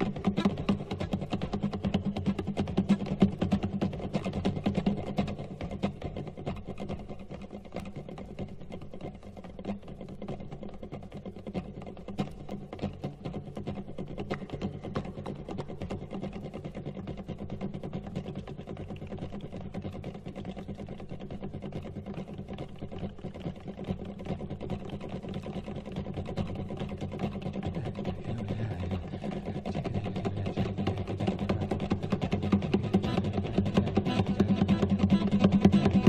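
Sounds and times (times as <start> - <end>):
fast instrumental strokes: 0.0 - 36.0.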